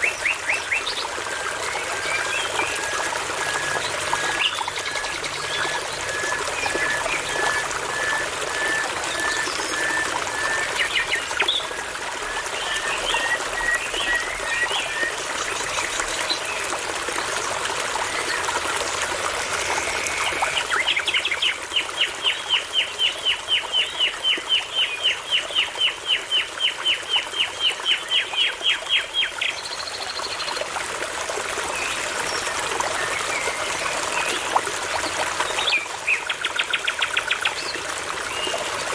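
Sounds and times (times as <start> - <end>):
babbling brook: 0.0 - 38.9.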